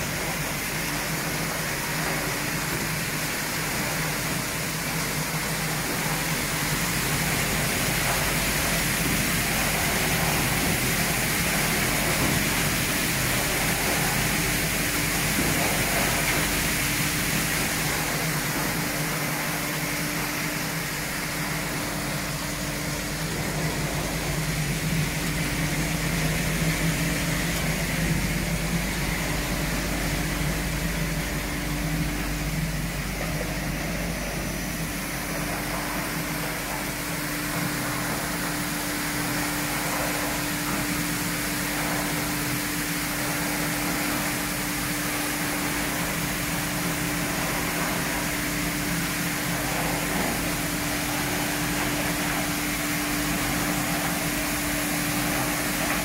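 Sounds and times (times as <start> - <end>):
machine hum: 0.0 - 56.0
water spraying into drum: 0.0 - 56.0.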